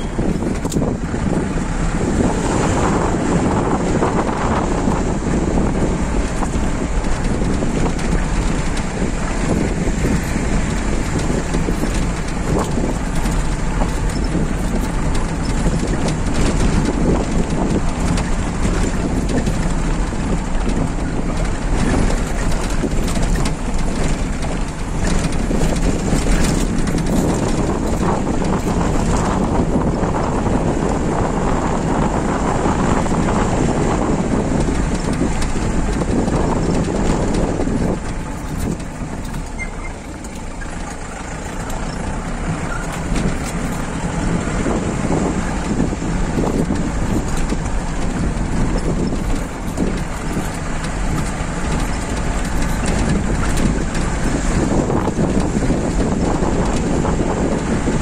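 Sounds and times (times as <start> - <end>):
knocks and rattles: 0.0 - 58.0
tyres on gravel: 0.0 - 58.0
vehicle engine running: 0.0 - 58.0.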